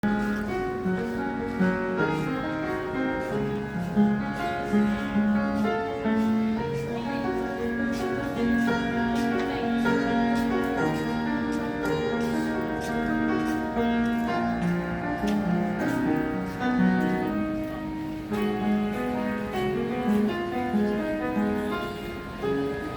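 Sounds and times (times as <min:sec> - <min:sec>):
piano playing: 0:00.0 - 0:22.9.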